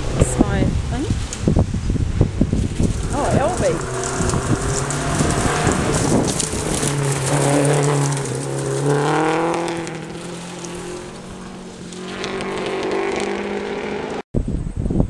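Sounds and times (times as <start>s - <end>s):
car engine revving past: 2.2s - 14.2s.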